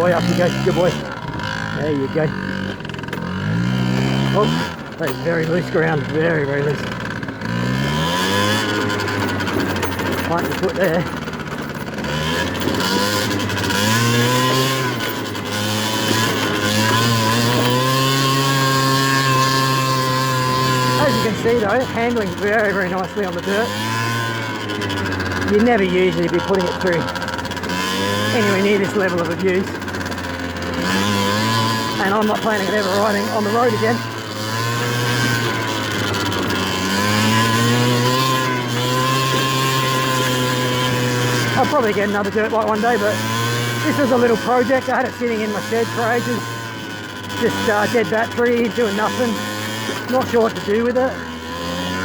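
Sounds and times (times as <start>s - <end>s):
two-stroke scooter engine revving: 0.0s - 52.0s.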